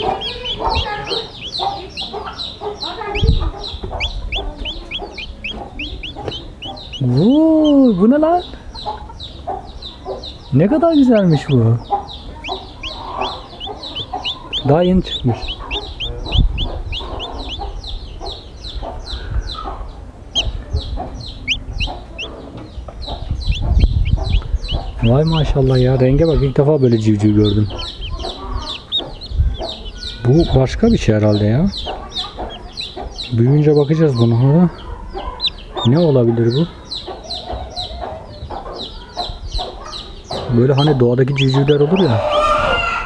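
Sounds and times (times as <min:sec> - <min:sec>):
chicks peeping: 0:00.0 - 0:43.0
hens clucking: 0:00.0 - 0:43.0.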